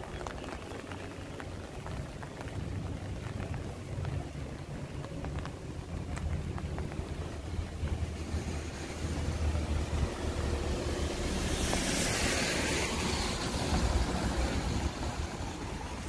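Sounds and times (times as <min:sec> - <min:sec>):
rushing hiss of rain: 0:00.0 - 0:16.0
wind rumble on microphone: 0:00.0 - 0:16.0.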